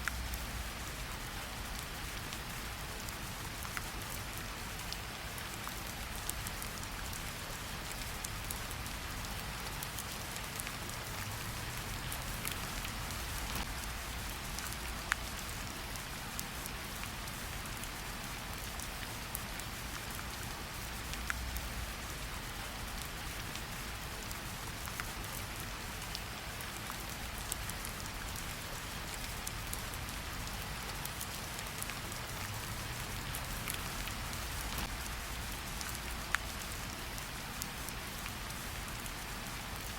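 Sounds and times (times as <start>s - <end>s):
raindrop ticking on surface: 0.0s - 39.9s
steady rain hiss: 0.0s - 39.9s.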